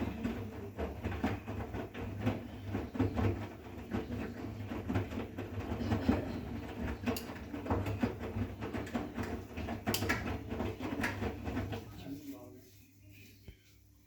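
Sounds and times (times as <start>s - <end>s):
laundry knocking and rustling in drum: 0.0s - 12.0s
washing machine motor hum: 0.0s - 14.0s.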